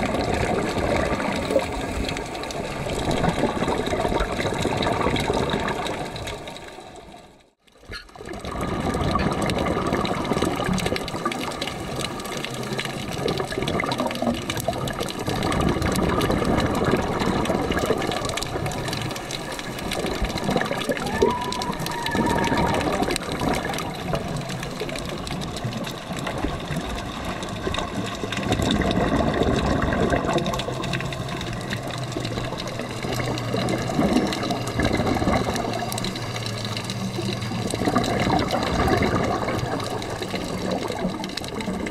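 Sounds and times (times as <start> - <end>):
rushing bubbling water underwater: 0.0 - 41.9.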